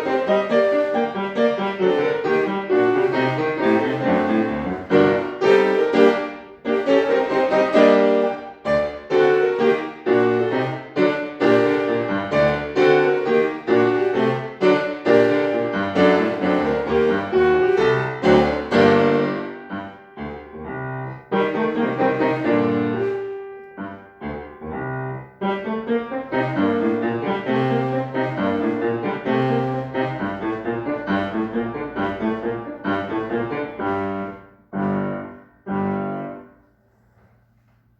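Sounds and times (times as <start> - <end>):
solo piano classical piece: 0.0 - 37.9.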